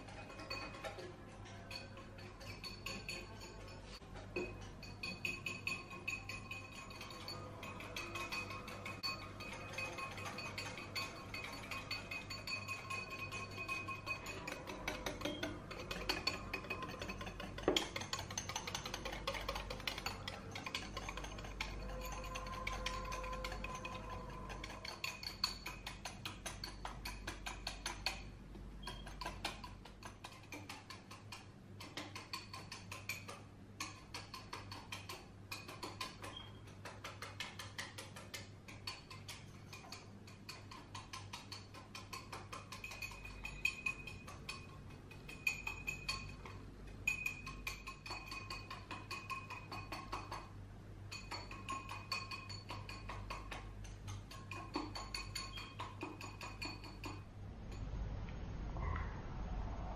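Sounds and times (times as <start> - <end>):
metal whisk clinking against glass bowl: 0.0 - 57.3.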